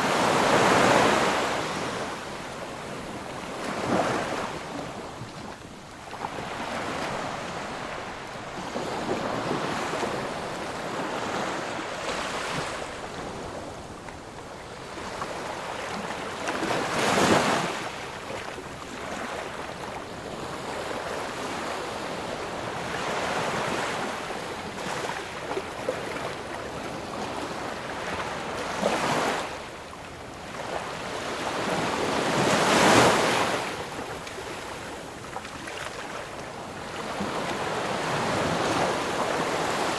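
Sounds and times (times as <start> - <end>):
ocean waves breaking: 0.0 - 26.5, 30.5 - 39.9.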